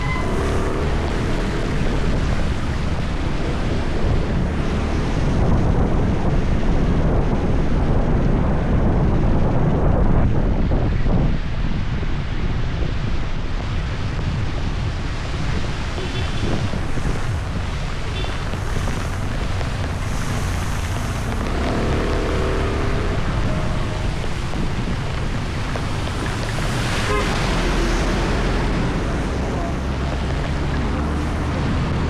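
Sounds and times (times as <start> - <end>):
floodwater rushing: 0.0 - 8.3, 13.3 - 32.0
wind buffeting microphone: 0.0 - 32.0.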